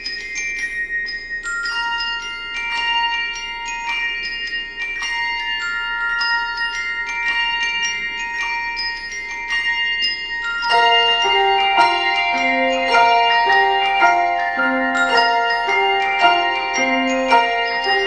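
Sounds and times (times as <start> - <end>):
handbells playing a melody: 0.0 - 18.0.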